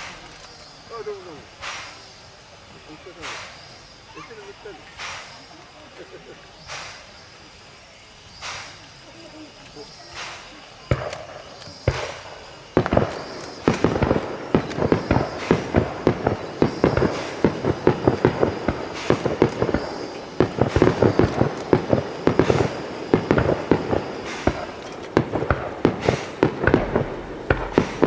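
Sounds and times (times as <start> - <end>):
fireworks cracking and banging: 0.0 - 28.0.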